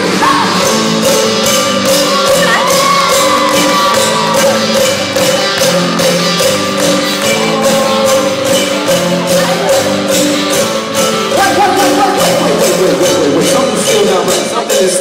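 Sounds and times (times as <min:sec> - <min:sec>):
live rock band playing: 0:00.0 - 0:15.0
cowbell: 0:00.3 - 0:15.0.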